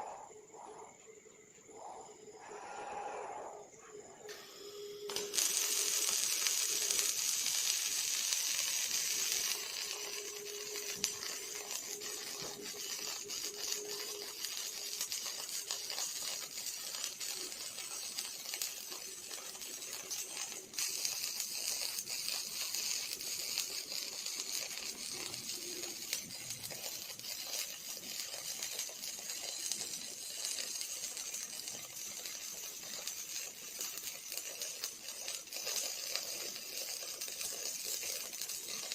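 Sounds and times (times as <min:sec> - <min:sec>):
welding arc crackling hiss: 0:03.4 - 0:38.9.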